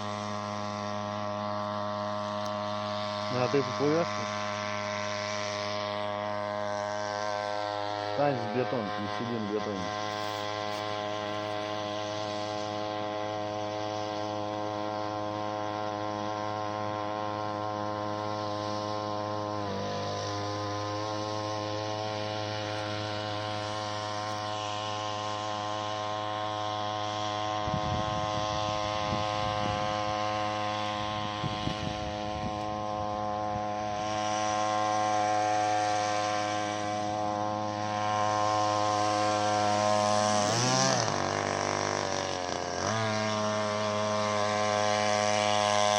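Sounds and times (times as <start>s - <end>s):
outboard motor running: 0.0s - 45.9s.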